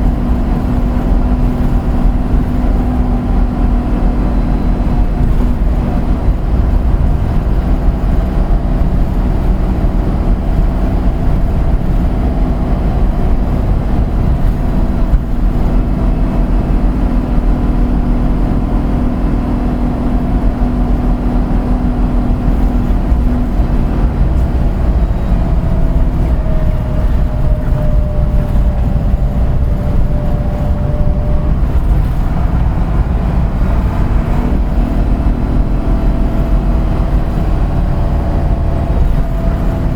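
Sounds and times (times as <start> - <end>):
bus engine rumbling: 0.0 - 39.9
drivetrain whine: 0.0 - 39.9.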